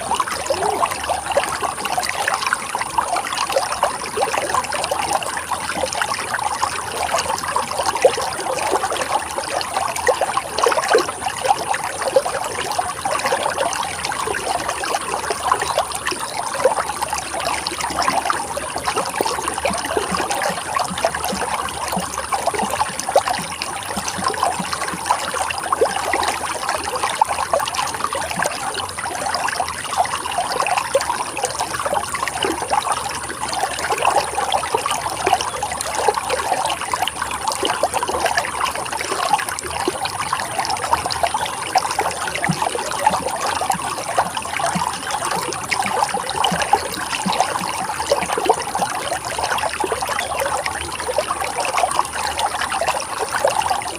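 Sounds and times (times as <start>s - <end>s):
water splashing over rocks: 0.0s - 53.9s.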